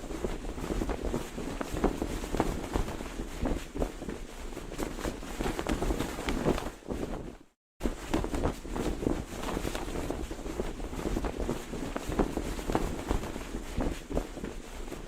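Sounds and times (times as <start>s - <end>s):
cloth flag flapping in wind: 0.0s - 15.0s.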